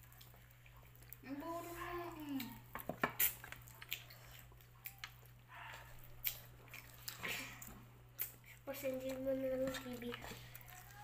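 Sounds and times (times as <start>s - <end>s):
chewing and mouth smacking: 0.0s - 1.3s, 2.2s - 11.0s.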